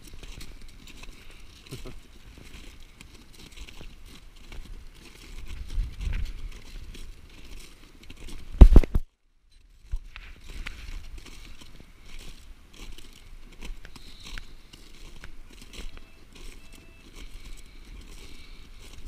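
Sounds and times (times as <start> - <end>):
footsteps crunching on ice: 0.0 - 19.0.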